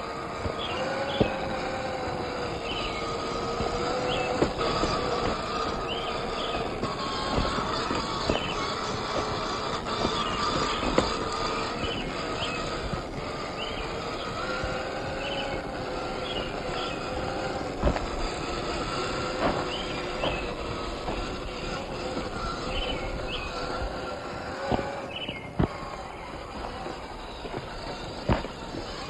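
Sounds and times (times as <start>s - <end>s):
electric motor and drivetrain whining: 0.0s - 29.0s
sharp knocks on terrain: 0.4s - 13.3s, 13.9s - 29.0s.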